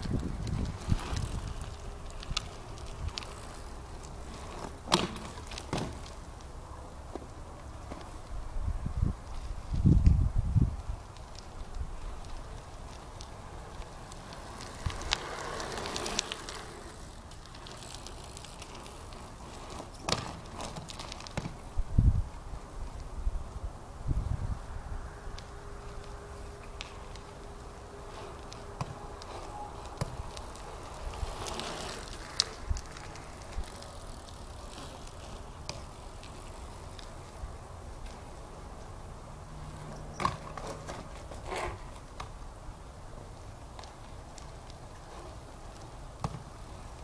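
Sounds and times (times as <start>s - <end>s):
bike rolling noise: 0.0s - 47.0s.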